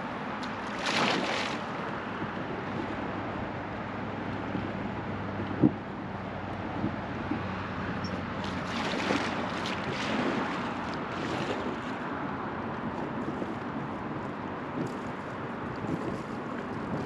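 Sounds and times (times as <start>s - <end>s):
water lapping around raft: 0.0s - 17.0s
wind noise on microphone: 0.0s - 17.0s.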